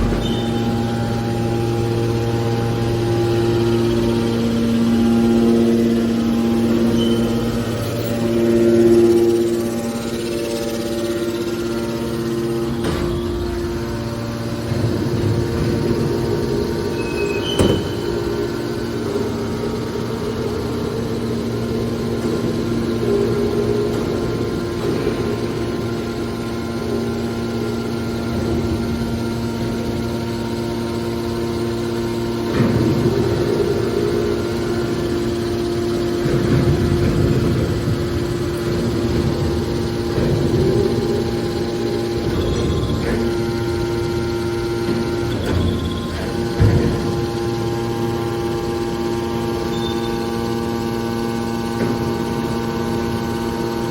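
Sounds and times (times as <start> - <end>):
hydraulic baler humming drone: 0.0 - 53.9.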